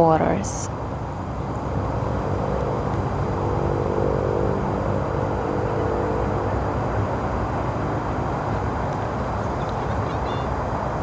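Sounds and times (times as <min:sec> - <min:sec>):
faint engine drone: 0:00.0 - 0:11.0.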